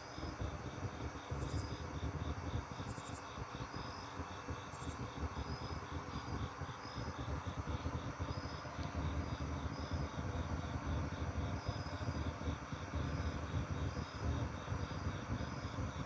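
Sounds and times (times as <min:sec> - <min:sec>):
constant low rumble: 0:00.0 - 0:16.0
crickets chirping: 0:00.0 - 0:16.0
higher insect call: 0:00.0 - 0:16.0.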